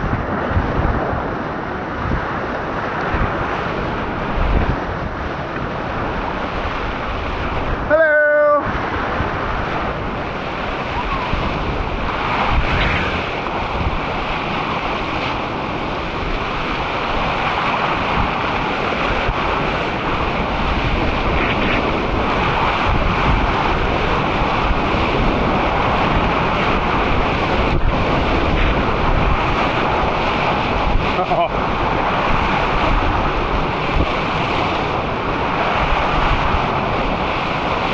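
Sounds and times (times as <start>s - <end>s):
whitewater river rushing: 0.0s - 37.9s
wind buffeting microphone: 0.0s - 37.9s.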